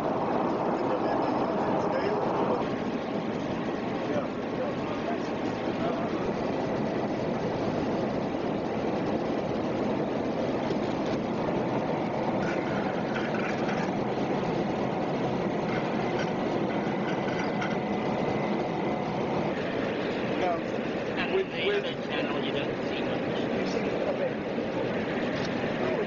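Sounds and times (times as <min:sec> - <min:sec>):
aircraft cabin engine noise: 0:00.0 - 0:26.0.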